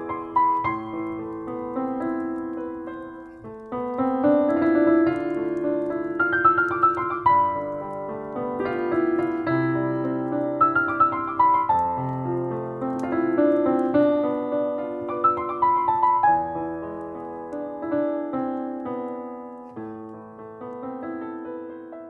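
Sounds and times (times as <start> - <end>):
slow solo piano melody: 0.0 - 22.0.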